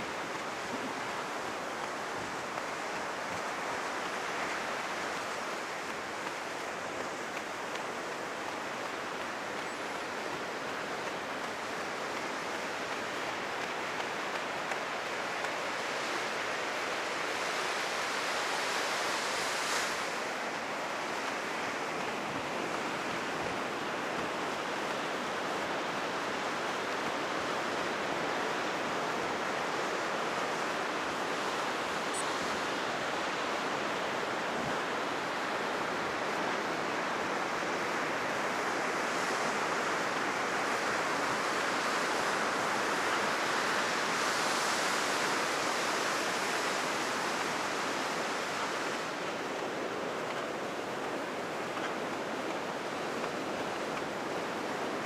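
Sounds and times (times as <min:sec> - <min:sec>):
heavy surf breaking on beach: 0:00.0 - 0:55.0.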